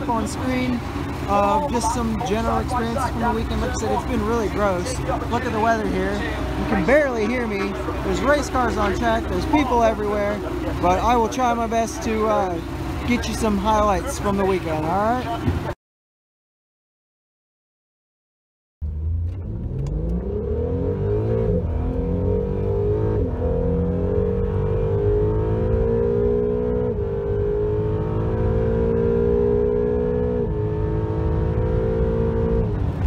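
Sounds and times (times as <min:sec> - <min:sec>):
car engine accelerating: 0:00.0 - 0:15.7, 0:18.8 - 0:33.0
road and wind rumble: 0:00.0 - 0:15.8, 0:18.8 - 0:33.0.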